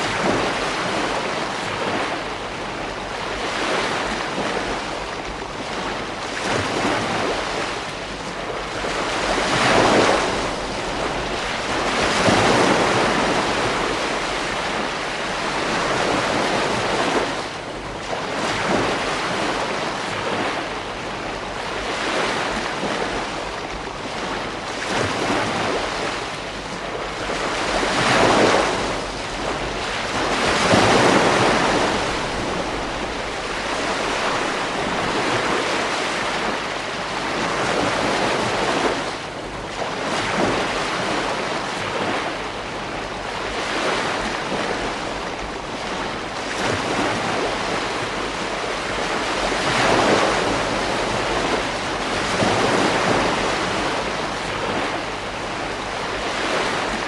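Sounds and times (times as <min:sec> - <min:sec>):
ocean waves breaking: 0:00.0 - 0:57.0
wind on microphone: 0:00.0 - 0:57.0.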